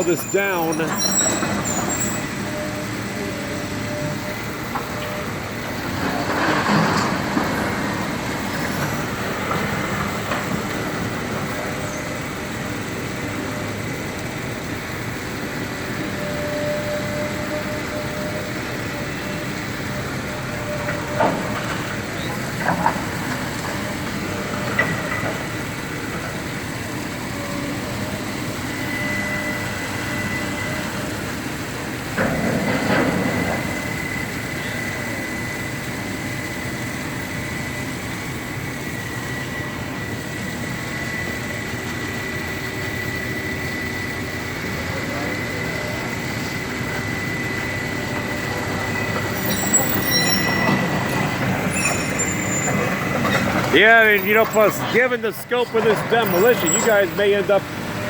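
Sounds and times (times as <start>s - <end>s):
heavy demolition machinery running: 0.0s - 58.0s.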